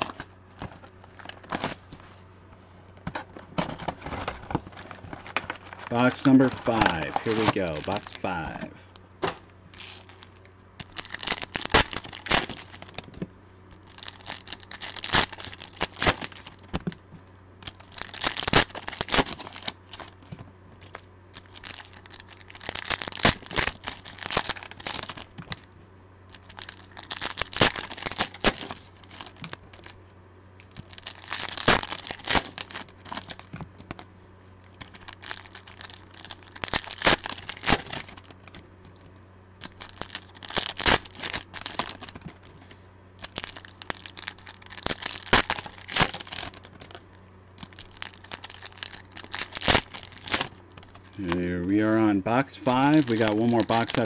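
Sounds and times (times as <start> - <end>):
foil packs tearing and crinkling: 0.0 - 2.0, 3.6 - 17.0, 17.6 - 25.7, 26.3 - 30.0, 30.6 - 34.0, 34.6 - 38.6, 39.6 - 47.0, 47.6 - 51.5, 52.6 - 54.0.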